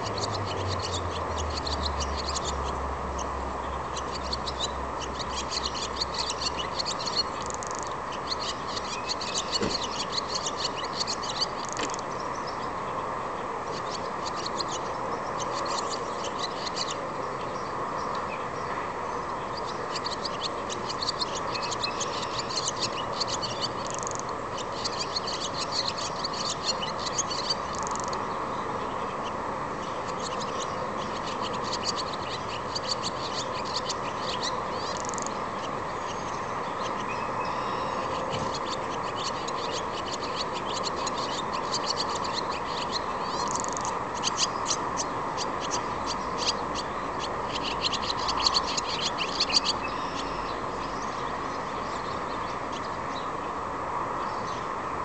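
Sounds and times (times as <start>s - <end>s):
small birds chirping: 0.0s - 55.0s
steady background hum: 0.0s - 55.0s.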